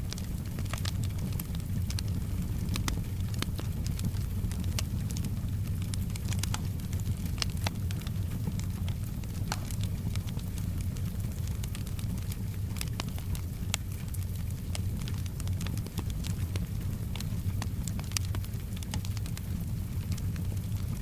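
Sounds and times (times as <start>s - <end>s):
soft rain: 0.0s - 21.0s
wood fire crackling: 0.0s - 21.0s.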